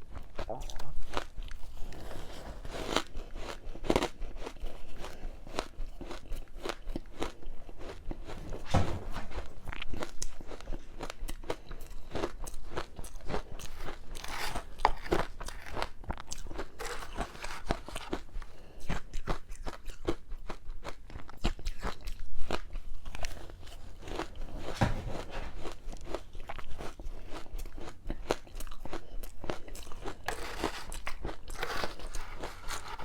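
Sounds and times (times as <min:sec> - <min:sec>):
crunching and chewing ice: 0:00.0 - 0:33.0.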